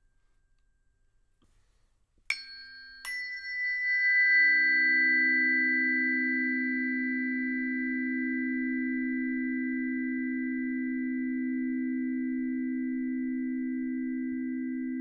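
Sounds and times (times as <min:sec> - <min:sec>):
tuning forks ringing: 0:02.3 - 0:15.0.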